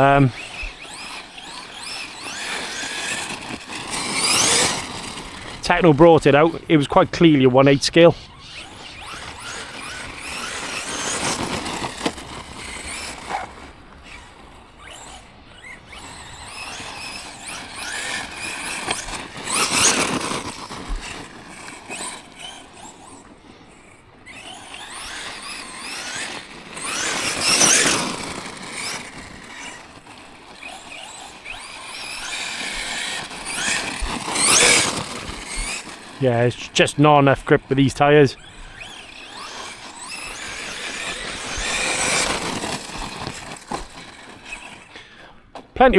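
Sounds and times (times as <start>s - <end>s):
electric motor whining: 0.0s - 45.8s
tyres spinning on loose ground: 0.0s - 45.9s.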